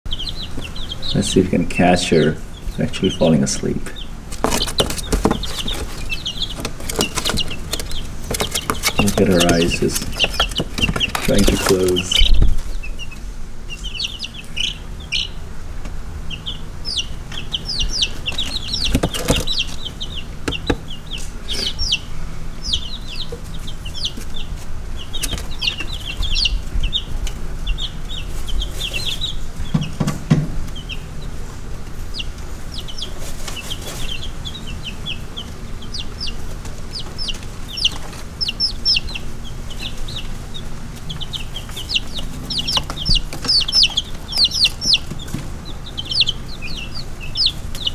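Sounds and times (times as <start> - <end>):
baby chicks peeping: 0.0 - 47.9.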